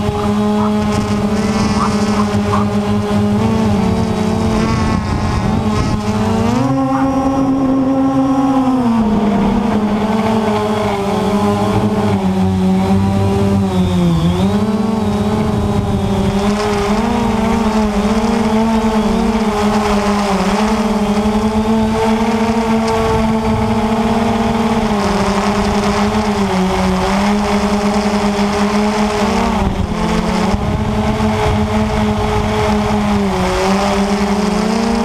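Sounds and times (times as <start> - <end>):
quadcopter propellers buzzing: 0.0 - 35.0.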